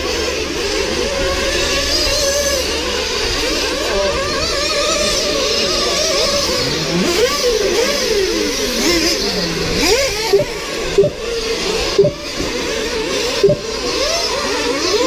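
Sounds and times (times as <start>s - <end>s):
rc buggy engines revving: 0.0s - 15.0s.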